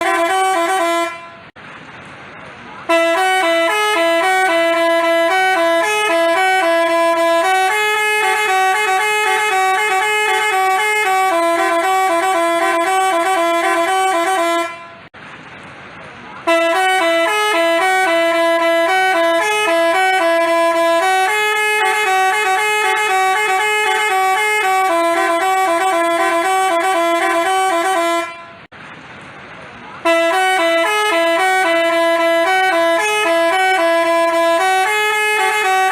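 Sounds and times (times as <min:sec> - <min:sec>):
multi-tone musical bus horn: 0:00.0 - 0:01.6, 0:02.8 - 0:15.2, 0:16.4 - 0:28.7, 0:30.0 - 0:35.9.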